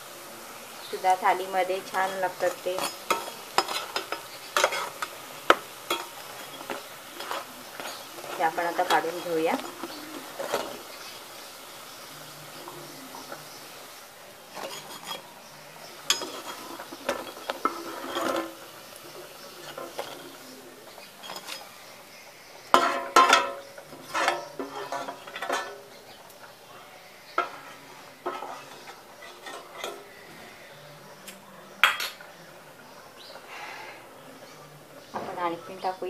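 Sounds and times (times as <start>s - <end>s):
metal spatula scraping frying pan: 0.7s - 26.6s, 27.2s - 30.8s.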